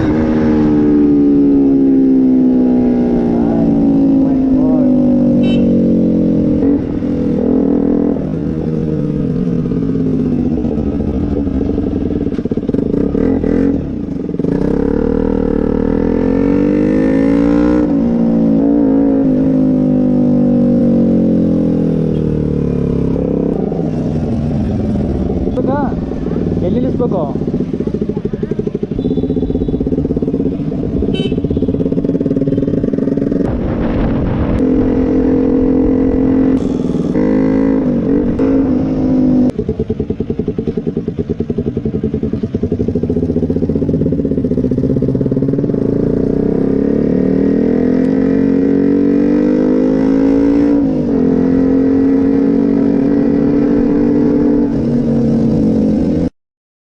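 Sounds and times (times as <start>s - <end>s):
motorcycle engine accelerating: 0.0s - 56.3s.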